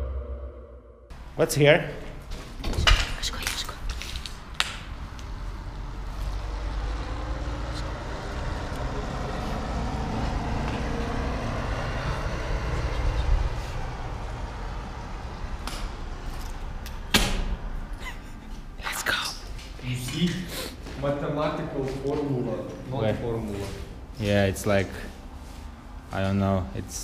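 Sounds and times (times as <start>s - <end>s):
vehicle passing: 0.0s - 2.3s, 4.0s - 27.0s
low traffic rumble: 0.0s - 27.0s.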